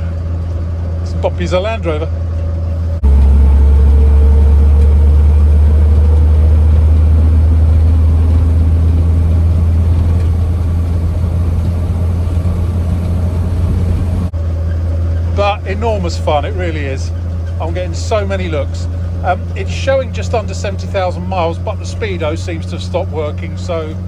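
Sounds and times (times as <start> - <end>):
road noise inside cab: 0.0 - 24.0
truck engine running: 0.0 - 24.0.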